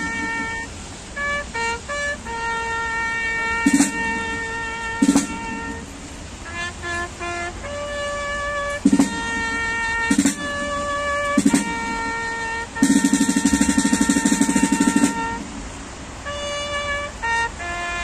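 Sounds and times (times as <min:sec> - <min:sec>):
vehicle horns honking: 0:00.0 - 0:15.5, 0:16.1 - 0:18.0
low buzzing horn: 0:00.0 - 0:15.6, 0:16.2 - 0:18.0.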